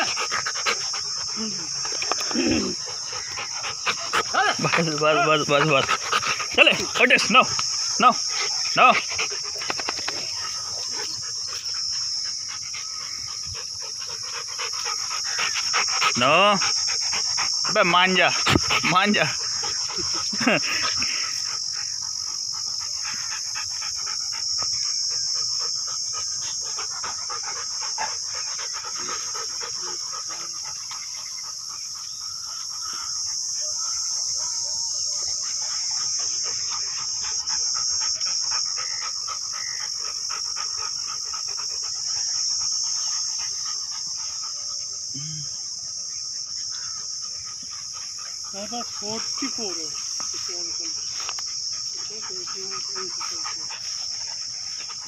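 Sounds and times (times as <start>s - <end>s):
dogs panting: 0.0s - 55.0s
high-pitched insect chorus: 0.0s - 55.0s.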